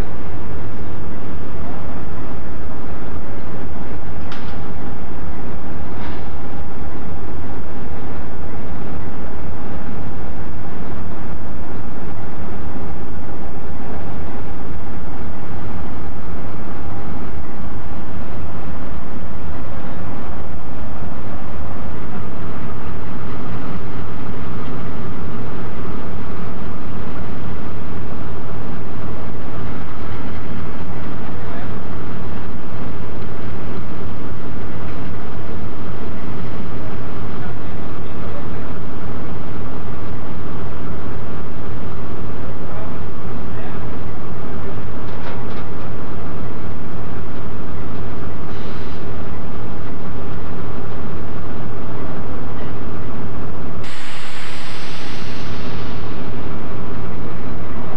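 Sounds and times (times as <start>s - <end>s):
locomotive engines droning: 0.0s - 57.9s.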